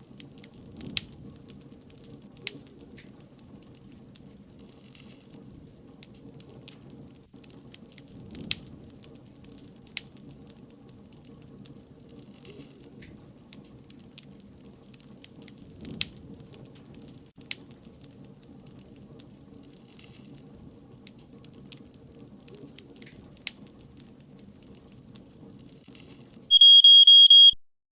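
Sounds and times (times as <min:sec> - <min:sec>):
wood fire crackling: 0:00.0 - 0:26.8.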